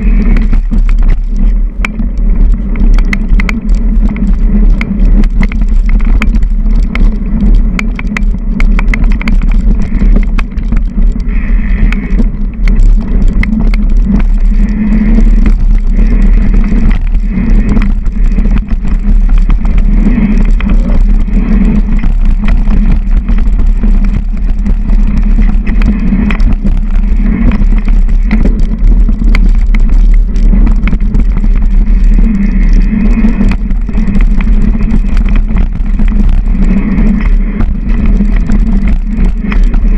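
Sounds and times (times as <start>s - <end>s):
bike rattling over bumps: 0.0s - 39.9s
rushing air: 0.0s - 39.9s
tyres rumbling on dirt: 0.0s - 39.9s.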